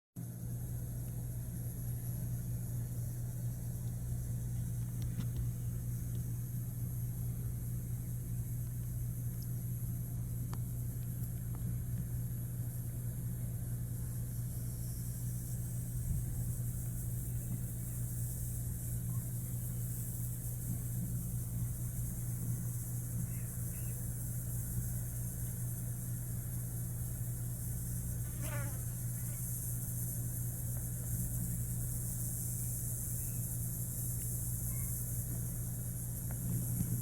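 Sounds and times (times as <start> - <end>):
low mechanical hum: 0.2 - 37.0.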